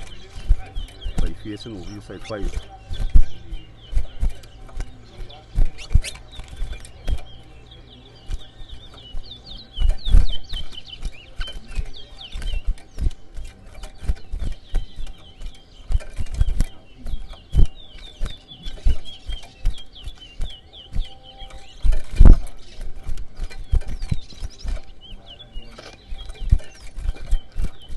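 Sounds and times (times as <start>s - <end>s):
low thumps and knocks: 0.0s - 7.4s, 8.2s - 25.1s
finch chirping: 0.0s - 27.9s.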